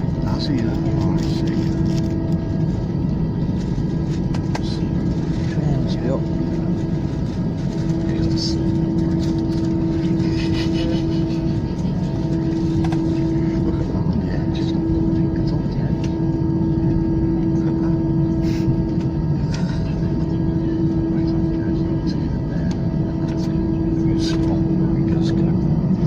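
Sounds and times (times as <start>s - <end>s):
airliner engines droning: 0.0s - 26.0s.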